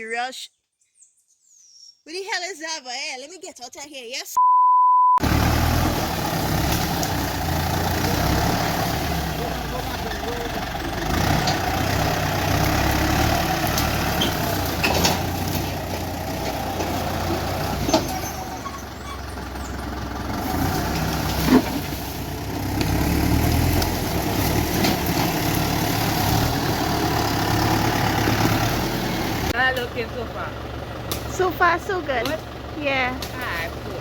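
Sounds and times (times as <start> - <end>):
heavy vehicle engine running: 5.2 - 34.0.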